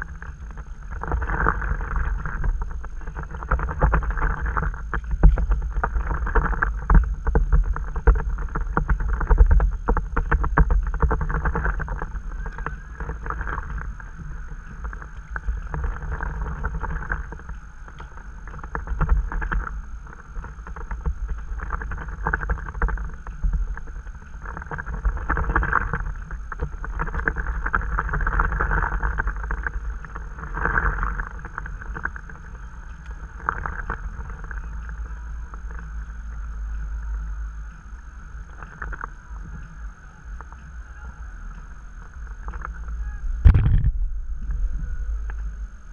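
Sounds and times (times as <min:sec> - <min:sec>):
wind rumbling on microphone: 0:00.0 - 0:45.9.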